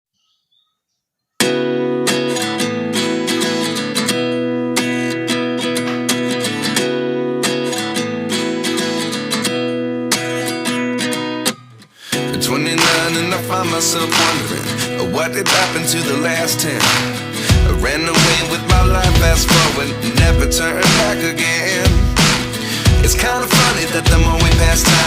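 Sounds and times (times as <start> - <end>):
acoustic guitar strummed: 1.4 - 25.0.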